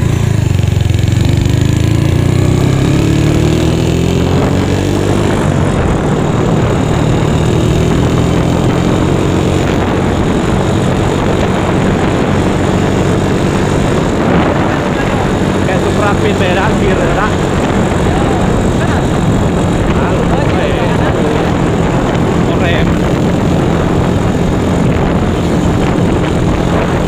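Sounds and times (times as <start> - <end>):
scooter engine accelerating: 0.0 - 27.0
wind and road noise: 0.0 - 27.0.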